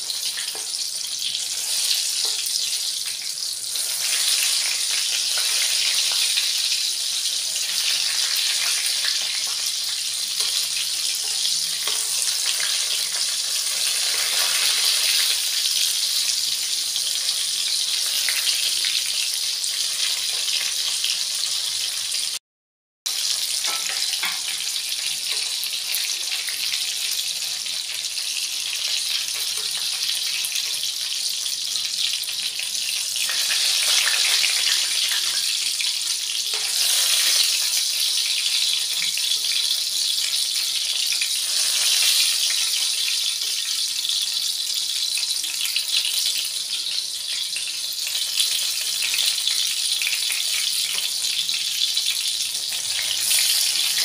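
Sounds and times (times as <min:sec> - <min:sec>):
food sizzling in hot oil: 0:00.0 - 0:22.4, 0:23.1 - 0:54.0.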